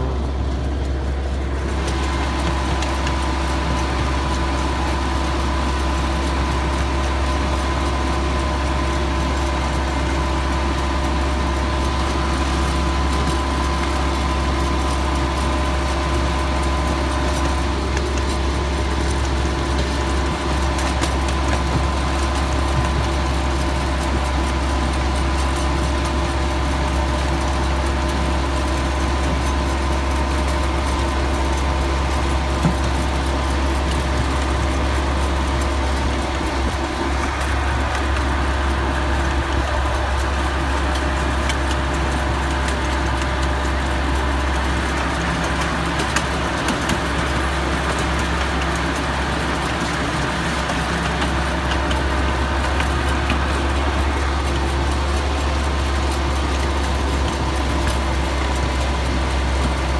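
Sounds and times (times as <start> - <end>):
miniature train engine drone: 0.0 - 59.9.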